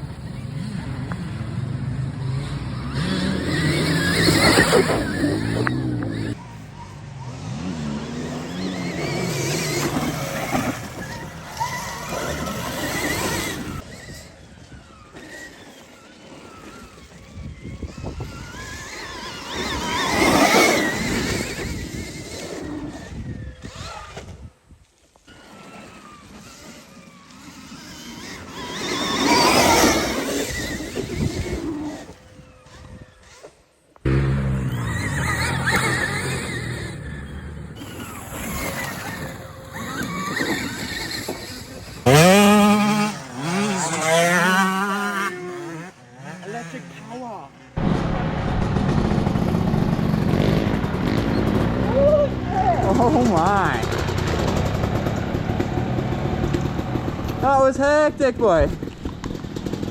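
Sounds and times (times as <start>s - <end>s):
electric motorbike whine: 0.0s - 59.9s
tyre and drivetrain noise: 0.0s - 59.9s.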